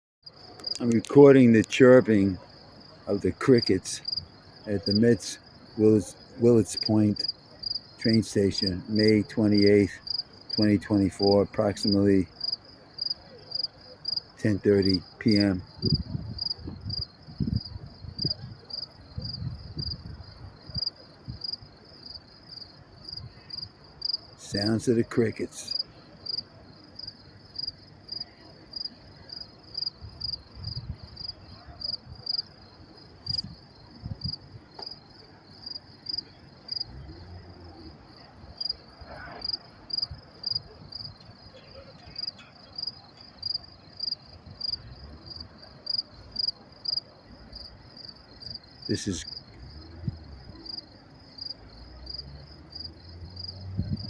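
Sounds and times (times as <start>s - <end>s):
crickets chirping: 0.2s - 54.0s.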